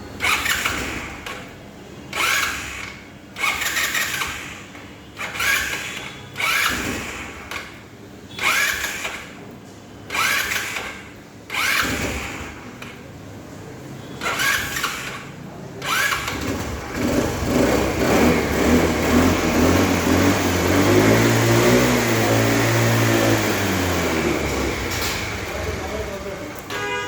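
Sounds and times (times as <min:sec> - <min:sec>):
scooter engine cranking: 0:00.1 - 0:09.5, 0:10.1 - 0:13.2, 0:14.2 - 0:27.0.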